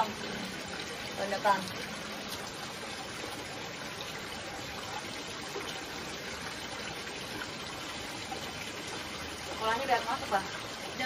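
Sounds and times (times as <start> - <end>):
water rushing in channel: 0.0 - 11.0.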